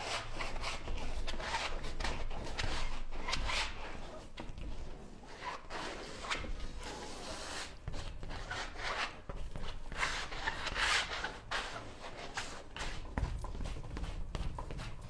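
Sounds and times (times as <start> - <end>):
paint tool scraping on canvas: 0.0 - 15.0.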